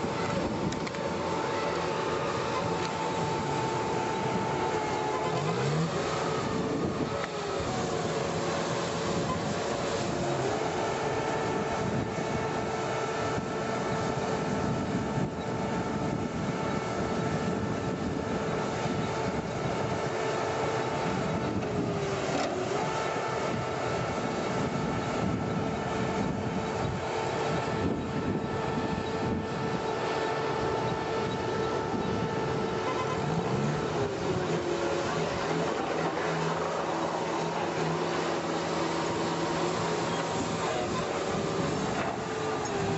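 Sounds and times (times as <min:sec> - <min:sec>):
diesel engines under load: 0:00.0 - 0:42.9
high machinery whine: 0:00.0 - 0:42.9.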